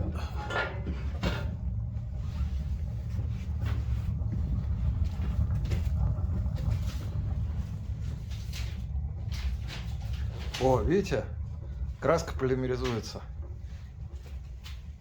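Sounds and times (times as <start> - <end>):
chimney draught rumble: 0.0 - 15.0
fire crackling: 0.0 - 15.0.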